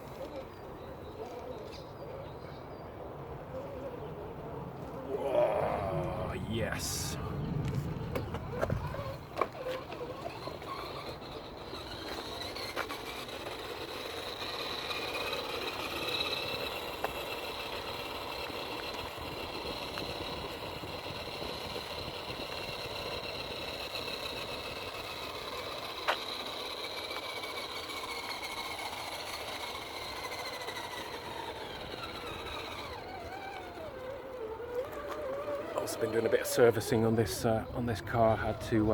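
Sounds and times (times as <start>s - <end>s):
electric motor and gears whining: 5.1s - 38.9s.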